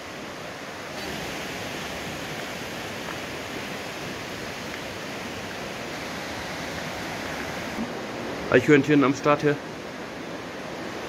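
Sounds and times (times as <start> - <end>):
mountain stream rushing: 0.0 - 11.0.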